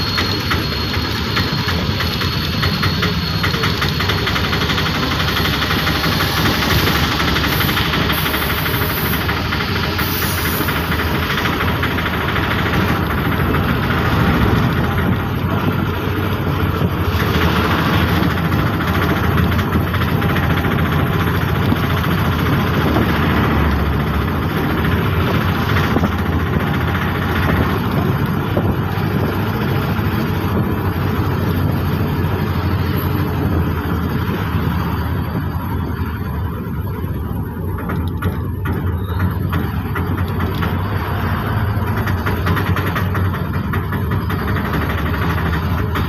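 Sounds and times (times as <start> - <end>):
road noise: 0.0 - 46.0
small engine running: 0.0 - 46.0.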